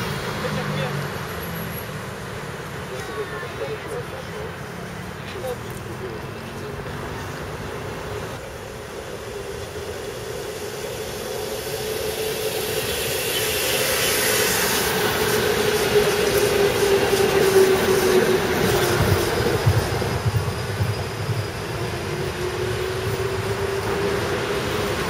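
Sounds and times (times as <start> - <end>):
tram passing with whine: 0.0 - 25.0.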